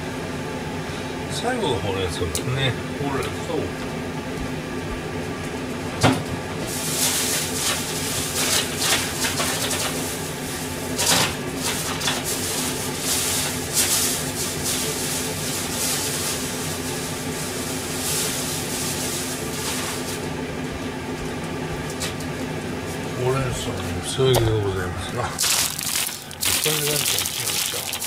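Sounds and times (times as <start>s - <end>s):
gas burner humming and hissing: 0.0s - 28.0s.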